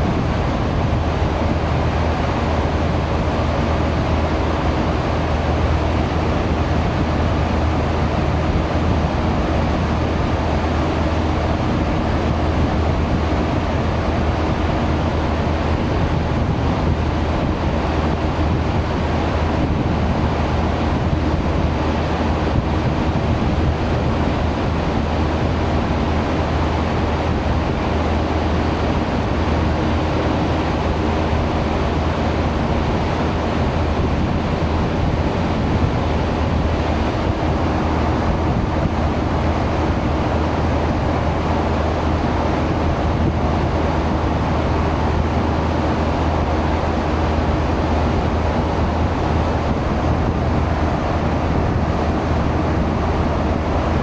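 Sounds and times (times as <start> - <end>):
ship engine drone: 0.0 - 54.0
wind buffeting microphone: 0.0 - 54.0.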